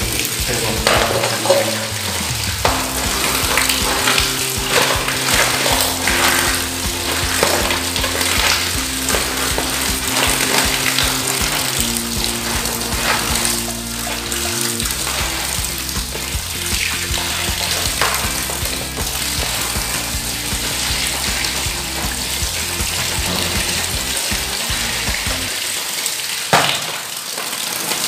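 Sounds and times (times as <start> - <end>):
background music with held notes: 0.0 - 25.6
tap water splashing into colander: 0.0 - 28.0
hands rubbing food: 2.0 - 25.5.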